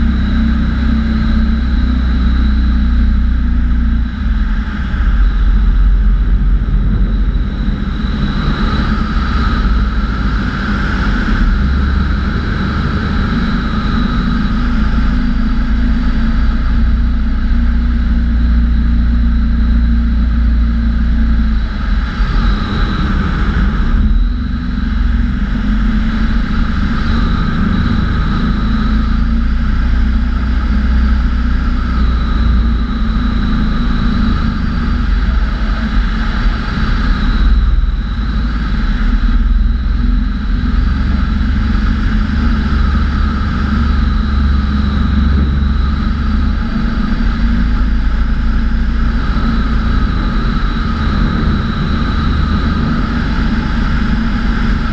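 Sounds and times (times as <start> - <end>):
propeller engine running steadily: 0.0 - 54.9.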